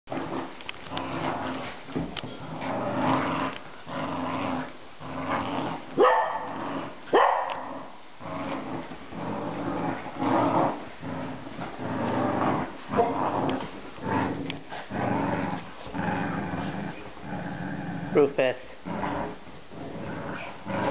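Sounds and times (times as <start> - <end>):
dogs growling: 0.1 - 20.9.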